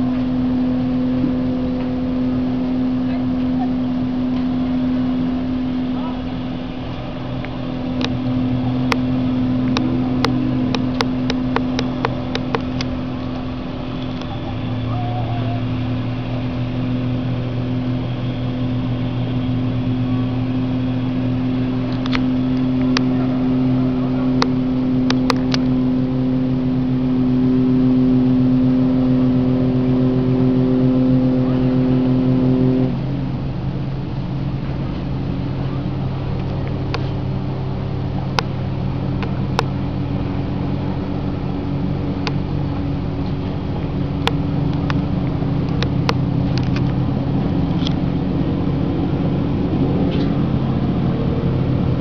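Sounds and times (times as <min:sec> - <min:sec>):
motorboat engine running: 0:00.0 - 0:52.0.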